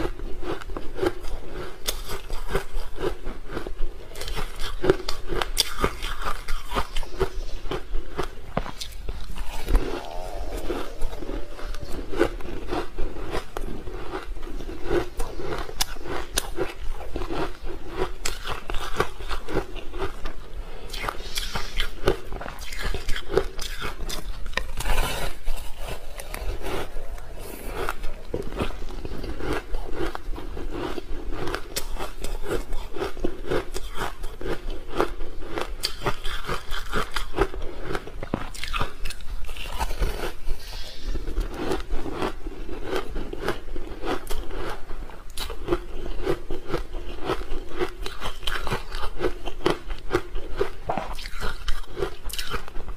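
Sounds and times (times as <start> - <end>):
person crunching ice: 0.0 - 52.8.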